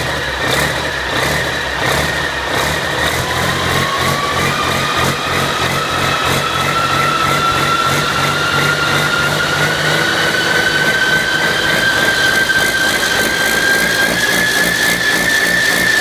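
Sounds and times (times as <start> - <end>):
diesel engine running: 0.0 - 16.0
high turbo whine: 0.0 - 16.0.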